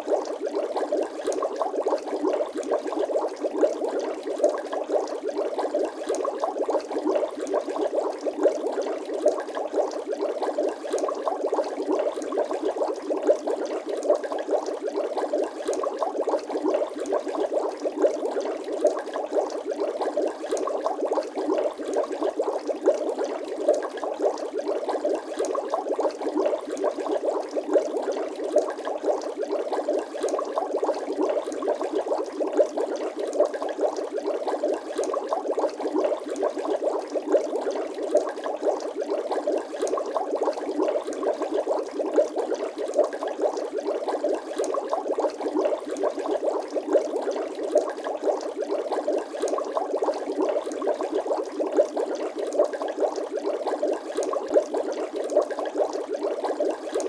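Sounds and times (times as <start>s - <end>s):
liquid bubbling: 0.0s - 57.0s.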